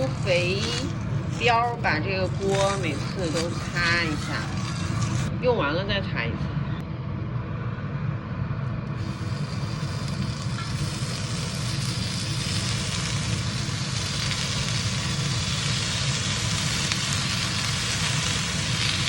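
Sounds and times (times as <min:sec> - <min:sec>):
meat sizzling in a pan: 0:00.0 - 0:05.3, 0:09.0 - 0:19.0
constant low hum: 0:00.0 - 0:19.0.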